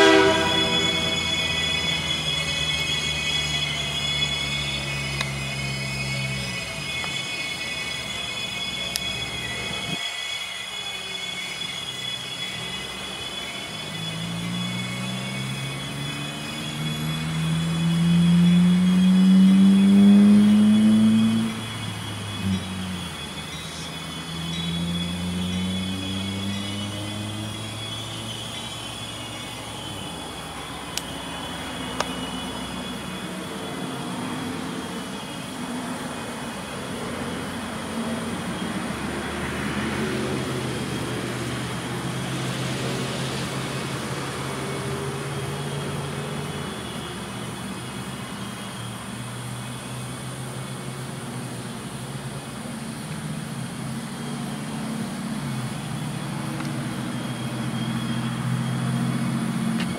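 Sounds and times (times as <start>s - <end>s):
freight train rolling: 0.0s - 59.9s.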